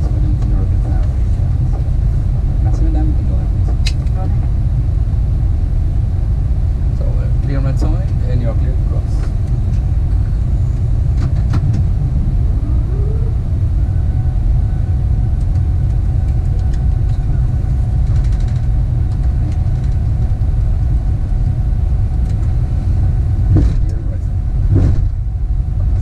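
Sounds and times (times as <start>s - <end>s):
airliner rolling rumble: 0.0s - 26.0s.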